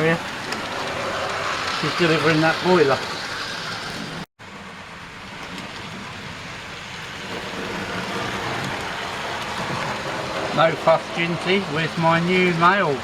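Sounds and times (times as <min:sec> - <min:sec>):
model trains running on rails: 0:00.0 - 0:13.0.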